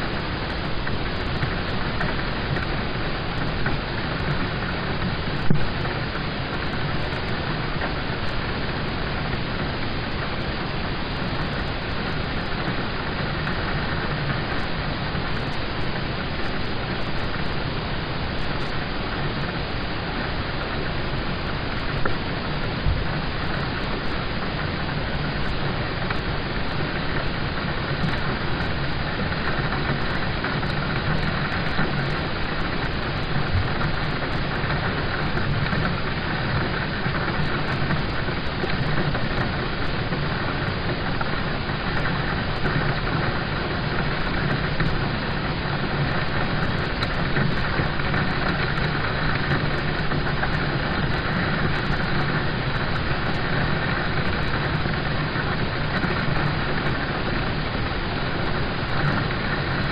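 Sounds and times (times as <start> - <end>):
rain on car roof: 0.0 - 59.9.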